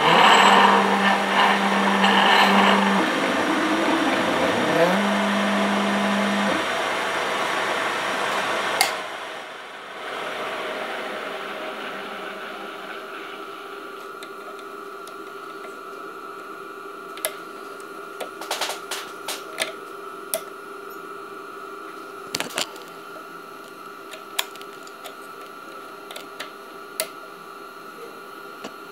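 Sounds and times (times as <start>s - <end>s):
milling machine humming: 0.0s - 28.9s.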